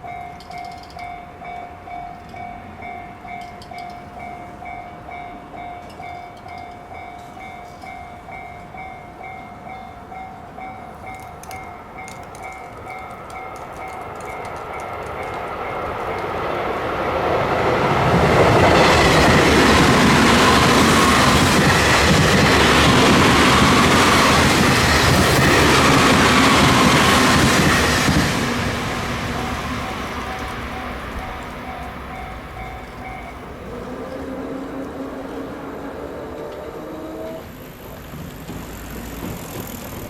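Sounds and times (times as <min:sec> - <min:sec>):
electric train passing: 0:00.0 - 0:40.0.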